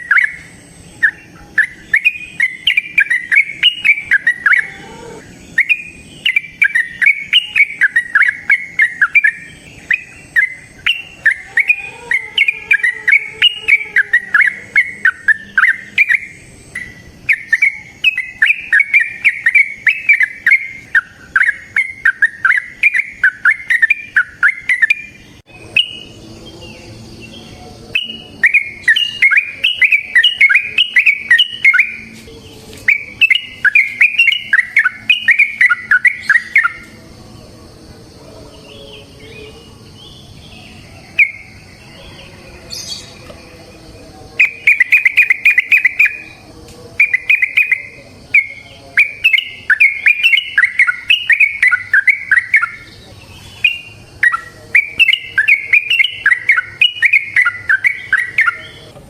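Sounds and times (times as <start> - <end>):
bird singing bubbly fluty notes: 0.0 - 37.3, 38.7 - 59.0.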